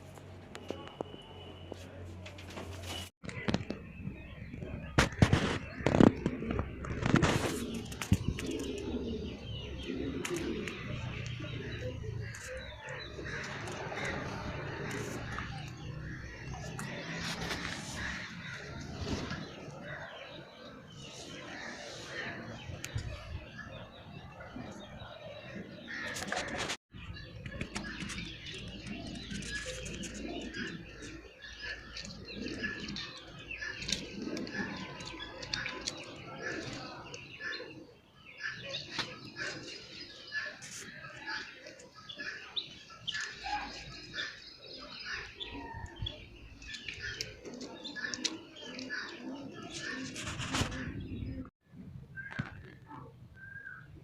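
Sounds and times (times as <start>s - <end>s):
small birds chirping: 3.3s - 51.5s
pigeons cooing: 4.6s - 26.7s, 27.3s - 51.5s.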